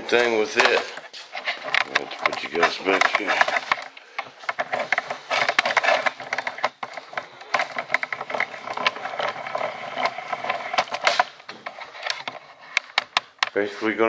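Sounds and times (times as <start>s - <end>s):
handling noise clicks and crackles: 0.1s - 13.6s.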